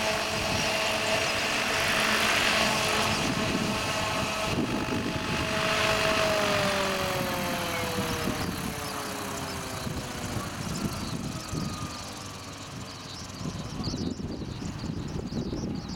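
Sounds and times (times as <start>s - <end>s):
model helicopter motor winding down: 0.0s - 15.2s
faint wind noise: 0.0s - 15.9s.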